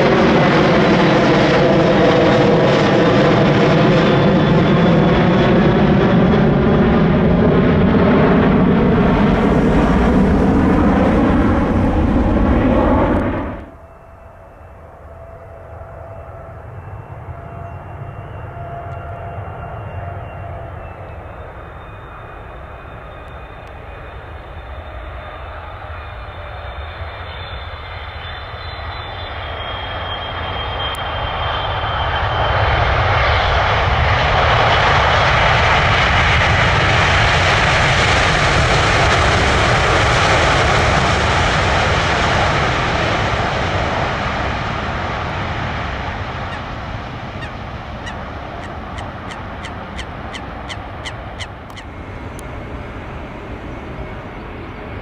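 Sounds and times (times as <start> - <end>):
high fan whine: 0.0 - 26.4, 33.9 - 55.0
jet aircraft passing: 0.0 - 55.0.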